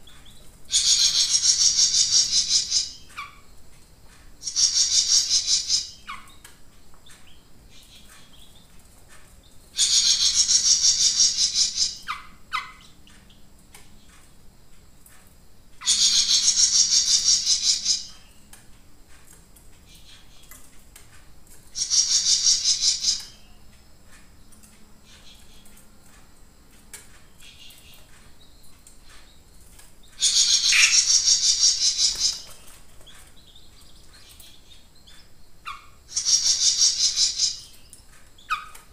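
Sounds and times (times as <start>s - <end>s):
songbird singing: 0.0s - 14.4s, 15.7s - 38.9s.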